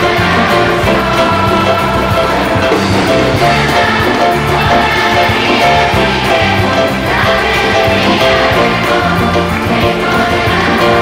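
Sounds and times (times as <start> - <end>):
orchestra playing upbeat music: 0.0 - 11.0.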